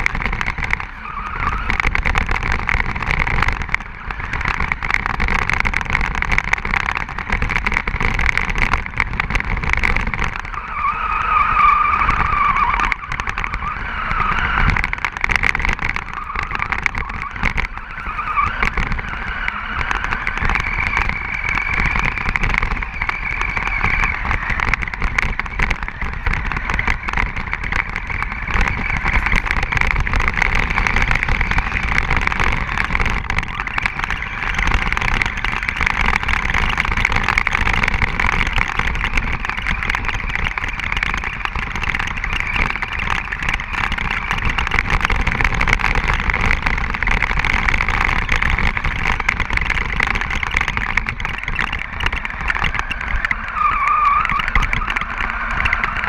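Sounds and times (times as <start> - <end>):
chassis knocking over ruts: 0.0 - 56.0
toy car motor whining: 0.0 - 56.0
tyres churning through snow: 0.0 - 56.0.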